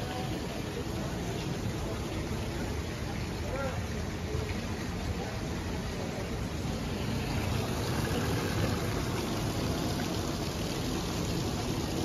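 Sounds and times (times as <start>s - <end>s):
churning water rushing: 0.0s - 12.0s.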